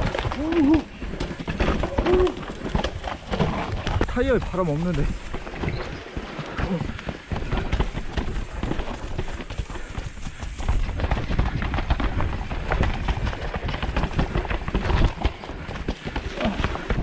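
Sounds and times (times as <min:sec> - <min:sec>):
bike clattering over rocks: 0:00.0 - 0:17.0.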